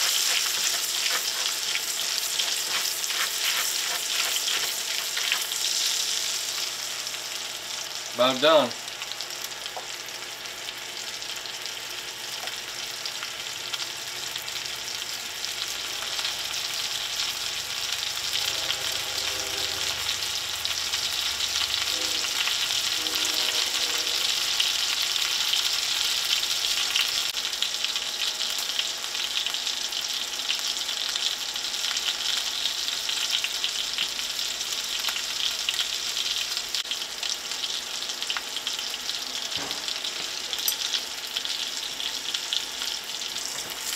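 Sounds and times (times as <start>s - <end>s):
scallops sizzling in a skillet: 0.0s - 43.9s.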